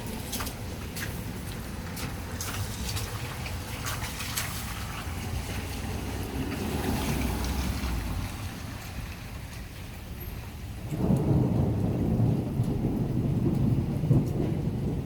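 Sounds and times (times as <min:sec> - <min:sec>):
rain falling: 0:00.0 - 0:15.0
raindrops ticking: 0:00.0 - 0:15.0.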